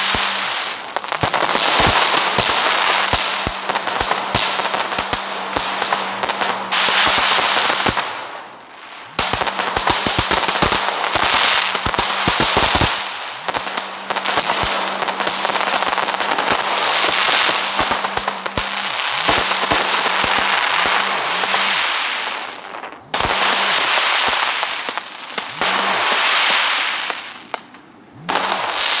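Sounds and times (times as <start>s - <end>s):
firecrackers crackling and popping: 0.0s - 29.0s.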